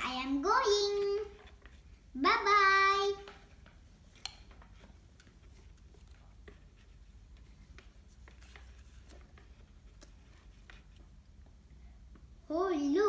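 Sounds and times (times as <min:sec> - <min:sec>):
faint clicks and rustles: 0:00.1 - 0:12.4.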